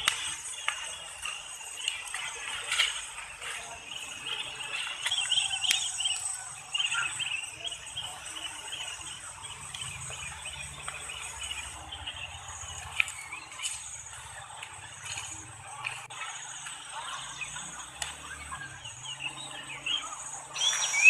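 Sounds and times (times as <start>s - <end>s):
insects chirping: 0.0s - 21.0s
lower chirps: 0.0s - 21.0s.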